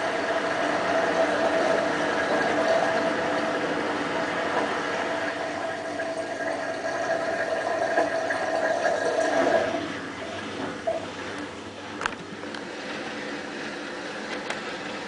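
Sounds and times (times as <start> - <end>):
washing machine drum churning: 0.0 - 15.0
washing machine motor whine: 0.0 - 15.0.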